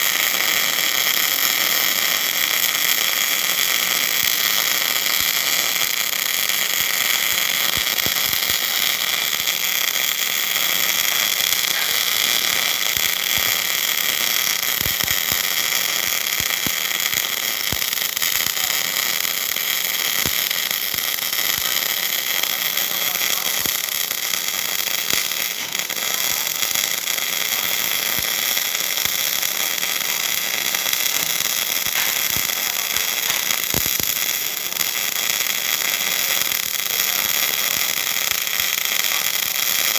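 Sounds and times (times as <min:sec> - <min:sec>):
welding arc hissing and popping: 0:00.0 - 0:39.9.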